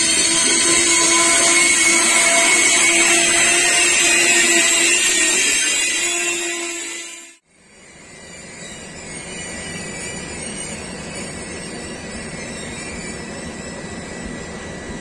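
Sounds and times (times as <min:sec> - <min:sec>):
constant whine: 0:00.0 - 0:15.0
train coaches rolling past: 0:00.0 - 0:15.0.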